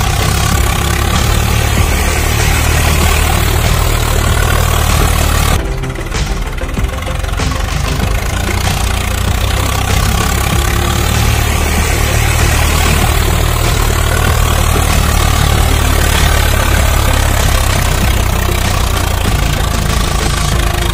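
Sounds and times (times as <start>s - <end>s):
low engine-like drone: 0.0s - 20.9s.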